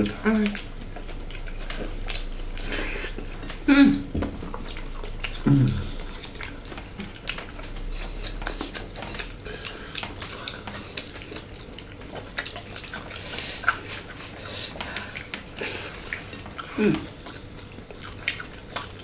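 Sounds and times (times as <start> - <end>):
chewing and wet mouth noises: 0.0 - 19.0.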